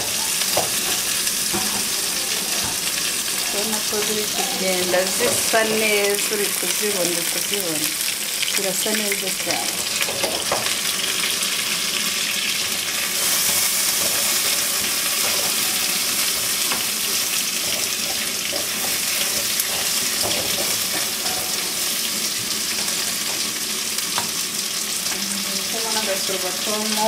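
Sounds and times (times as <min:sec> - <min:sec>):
chicken wings sizzling in a pan: 0:00.0 - 0:27.0.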